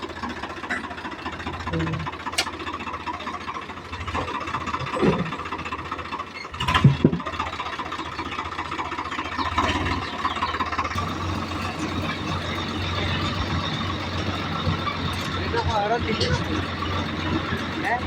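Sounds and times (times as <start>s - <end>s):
diesel engine idling with clatter: 0.0s - 18.0s.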